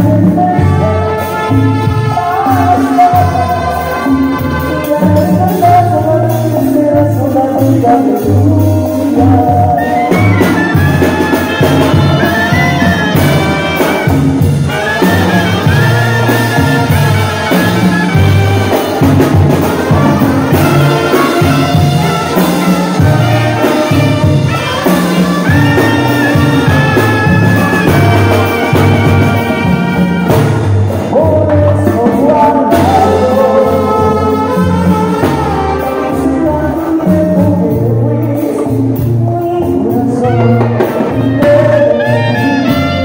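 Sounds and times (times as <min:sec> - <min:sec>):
drums: 0:00.0 - 0:43.0
trumpets playing melody: 0:00.0 - 0:43.0
tuba bass line: 0:00.0 - 0:43.0.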